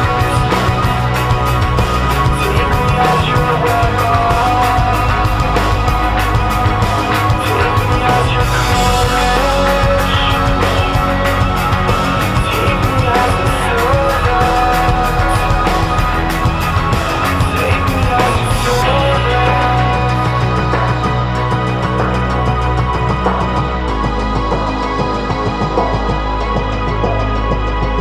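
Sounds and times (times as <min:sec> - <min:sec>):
rock music with drum beat: 0:00.0 - 0:28.0.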